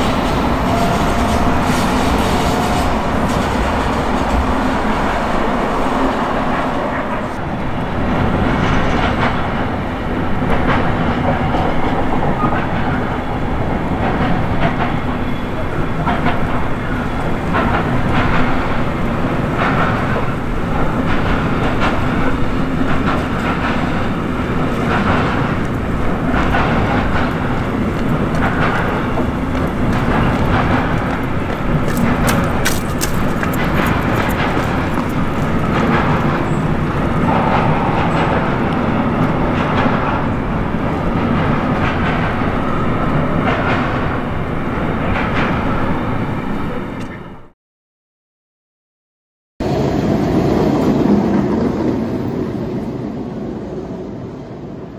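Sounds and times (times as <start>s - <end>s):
wheels clacking over rail joints: 0.0s - 47.2s
freight train rumble: 0.0s - 47.5s, 49.6s - 54.9s.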